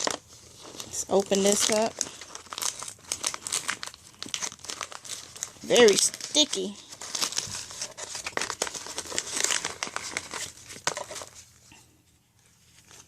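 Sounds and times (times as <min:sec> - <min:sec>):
packaging crinkling and tearing: 0:00.0 - 0:11.6, 0:12.6 - 0:13.0.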